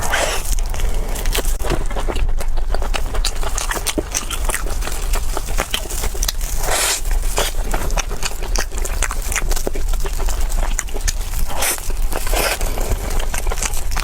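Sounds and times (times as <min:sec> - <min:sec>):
crunchy food chewing: 0:00.0 - 0:14.0.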